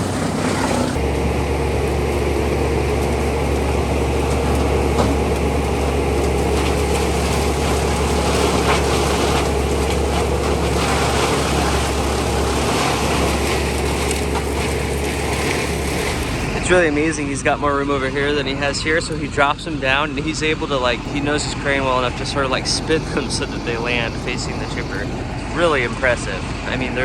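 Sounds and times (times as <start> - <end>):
heavy diesel machinery droning: 0.0 - 27.0.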